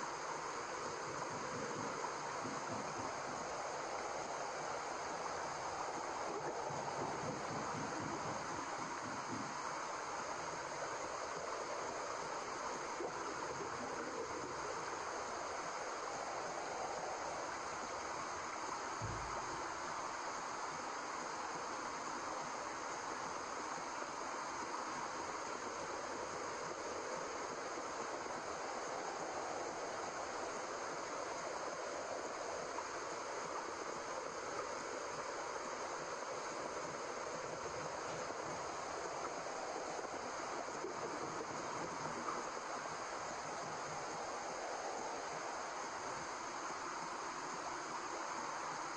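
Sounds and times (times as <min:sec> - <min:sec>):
steady white noise hiss: 0:00.0 - 0:48.9.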